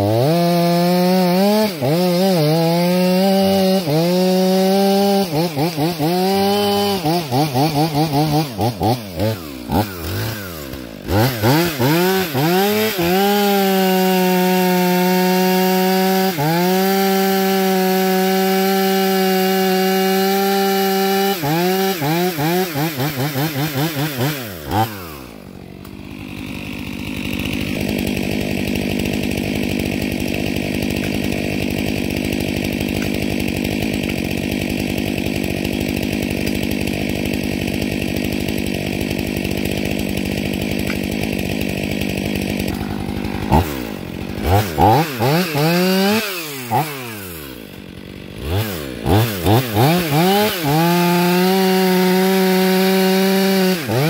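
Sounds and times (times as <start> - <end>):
chainsaw cutting log: 0.0 - 54.0
chainsaw idling: 0.0 - 54.0
chainsaw revving: 0.0 - 54.0.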